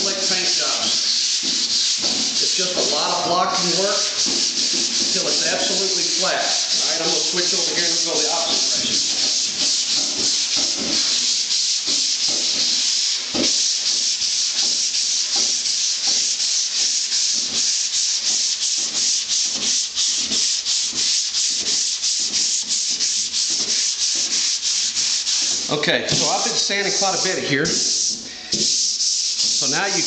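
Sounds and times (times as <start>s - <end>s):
sanding block sanding: 0.0s - 30.0s.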